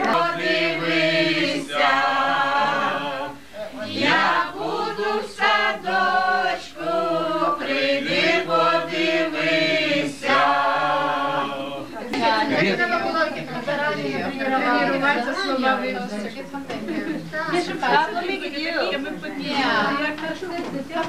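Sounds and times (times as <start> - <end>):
group singing unaccompanied: 0.0 - 16.2, 17.5 - 21.0.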